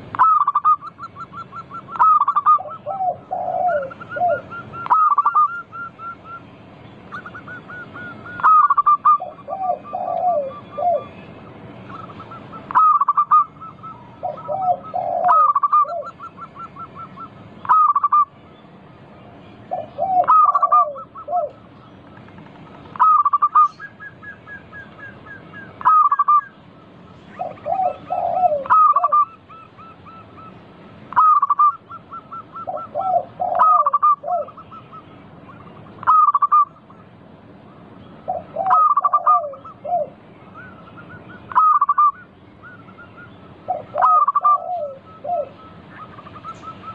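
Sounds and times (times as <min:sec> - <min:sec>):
doves cooing: 0:00.0 - 0:18.3, 0:19.6 - 0:46.9
bird trills: 0:00.0 - 0:46.9.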